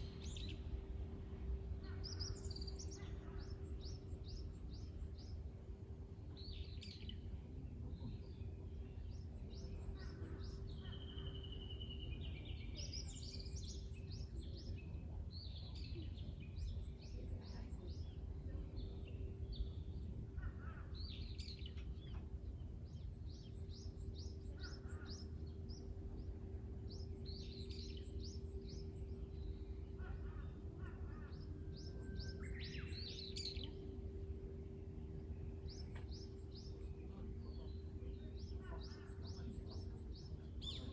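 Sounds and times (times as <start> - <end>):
low hum and rumble: 0.0 - 40.9
birds chirping: 6.2 - 40.9.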